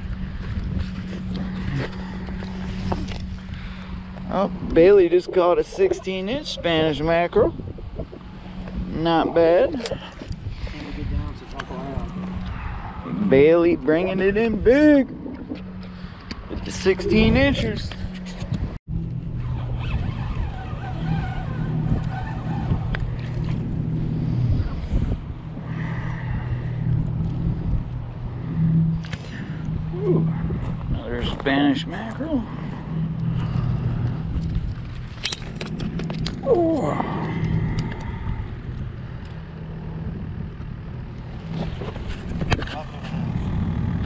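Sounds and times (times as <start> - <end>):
low engine drone: 0.0 - 44.0
low hum: 0.0 - 44.0.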